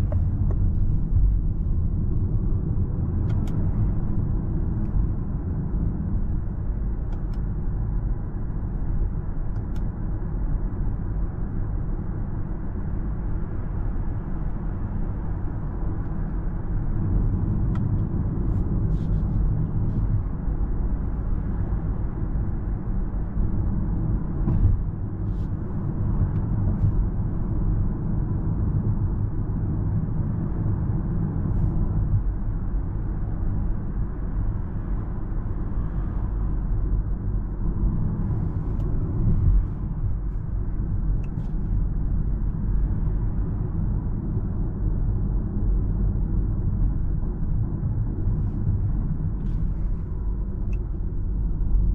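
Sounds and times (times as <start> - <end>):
road and tyre rumble: 0.0 - 51.9.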